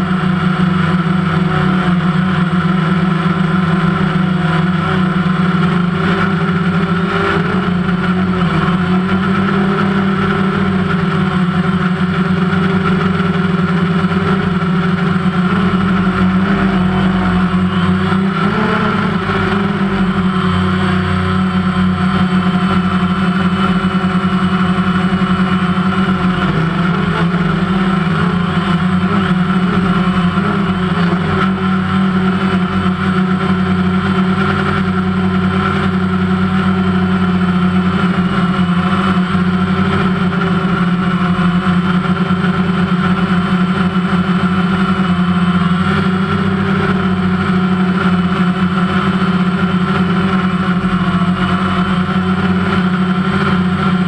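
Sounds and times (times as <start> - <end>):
drone motors and propellers humming: 0.0 - 54.0.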